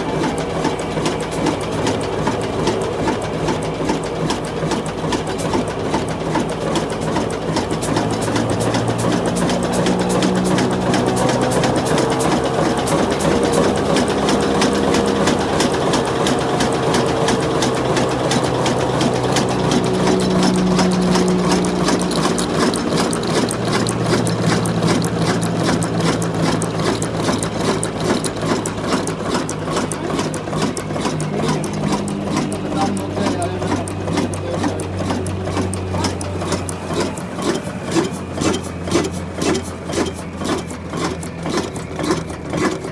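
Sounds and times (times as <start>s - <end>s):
diesel engine clattering: 0.0s - 42.9s.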